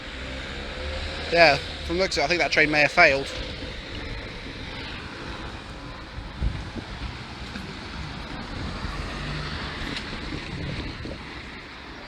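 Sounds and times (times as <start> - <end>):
wind buffeting microphone: 1.6 - 12.0.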